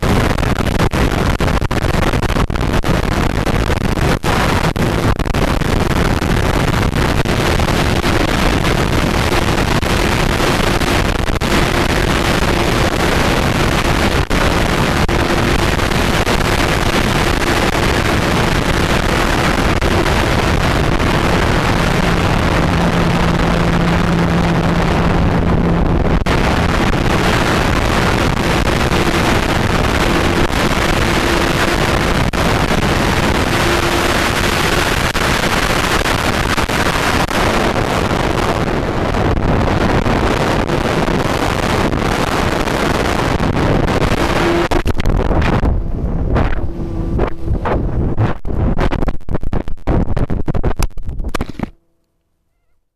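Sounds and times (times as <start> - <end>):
wind rush over microphone: 0.0 - 51.8
low hum: 5.0 - 49.5, 50.9 - 52.8
faint hum: 5.1 - 50.0, 51.0 - 52.9.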